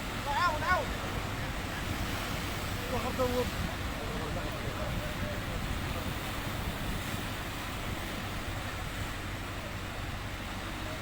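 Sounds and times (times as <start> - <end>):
wind on microphone: 0.0 - 9.4
surf: 0.0 - 11.0.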